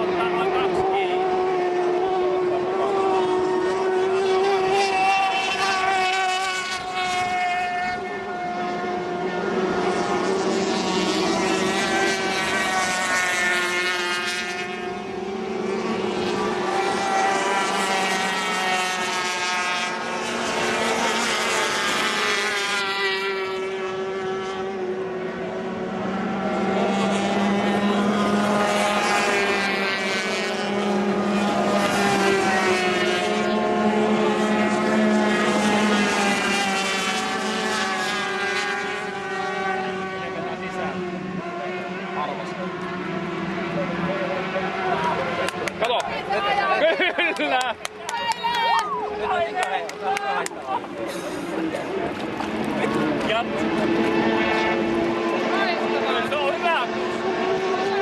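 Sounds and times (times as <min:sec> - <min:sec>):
powerboat outboard engines racing: 0:00.0 - 0:58.0.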